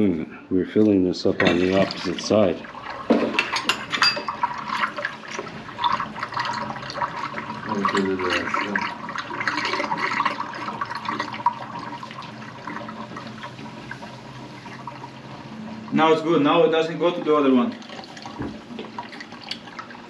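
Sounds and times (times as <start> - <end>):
water running from tap into sink: 1.3 - 20.0.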